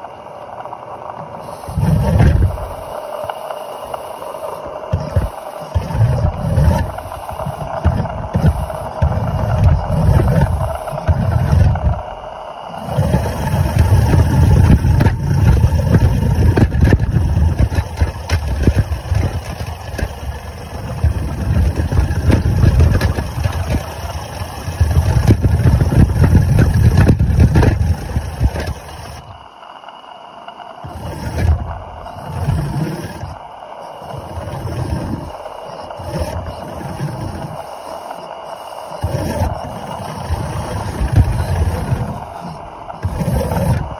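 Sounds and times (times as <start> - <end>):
steam wagon rumbling: 1.4 - 29.4, 30.8 - 43.9.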